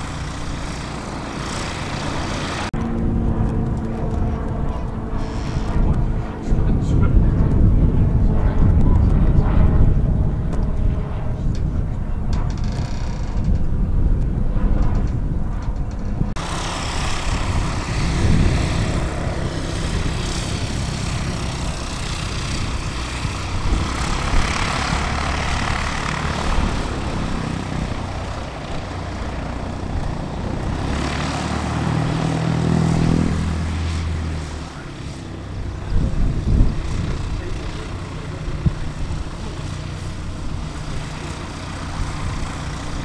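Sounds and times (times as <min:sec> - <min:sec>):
propeller aircraft engine drone: 0:00.0 - 0:43.0.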